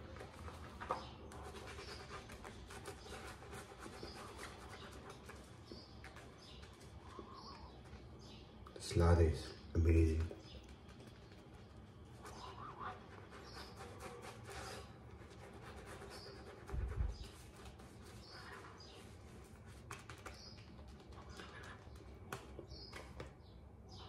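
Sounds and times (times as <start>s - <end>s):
faint bird chirps: 0.0s - 24.0s.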